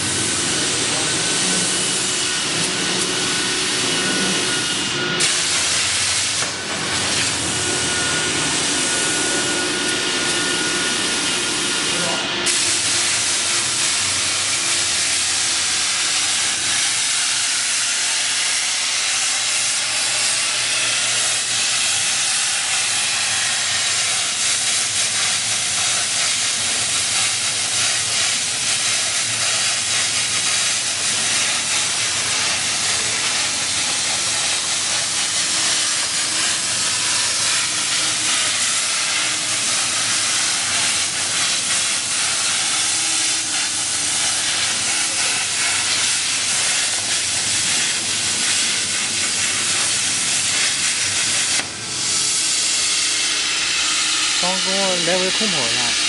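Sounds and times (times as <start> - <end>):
plasma torch hissing: 0.0 - 56.0.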